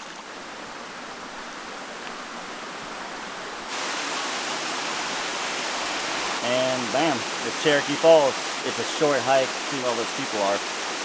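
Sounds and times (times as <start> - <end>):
water rushing down waterfall: 0.0 - 11.0.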